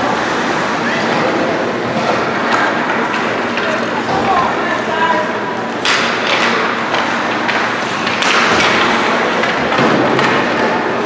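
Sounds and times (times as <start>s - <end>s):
hockey sticks and puck knocking: 1.0s - 4.6s, 5.7s - 11.0s.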